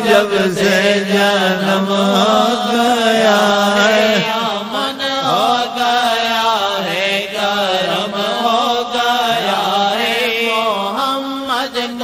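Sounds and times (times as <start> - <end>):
solo voice singing: 0.0 - 12.0.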